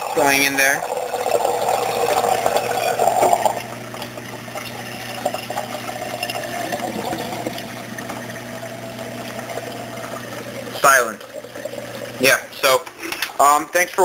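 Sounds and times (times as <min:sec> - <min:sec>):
water trickling through aquarium drain: 0:00.0 - 0:14.0.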